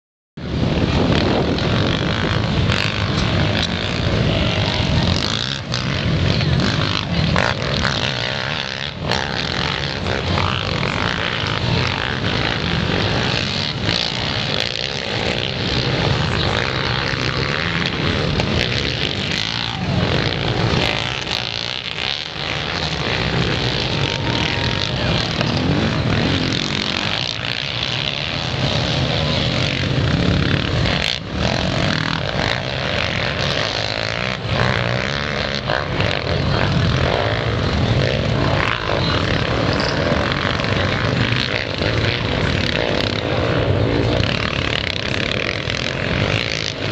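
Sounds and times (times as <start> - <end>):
quad engines revving: 0.4 - 46.9.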